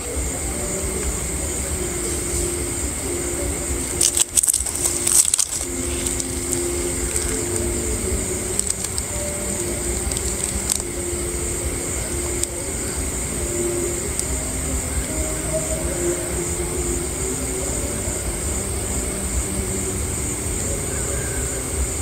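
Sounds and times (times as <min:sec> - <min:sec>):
insects chirring: 0:00.0 - 0:22.0
crackling rustles: 0:00.2 - 0:22.0.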